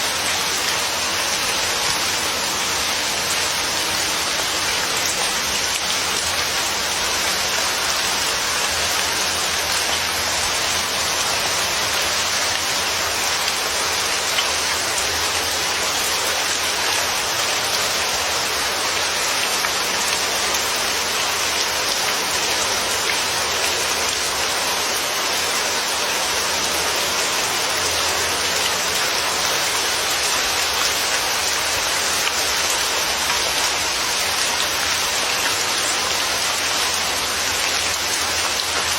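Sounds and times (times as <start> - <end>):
rain falling on a surface: 0.0 - 38.9.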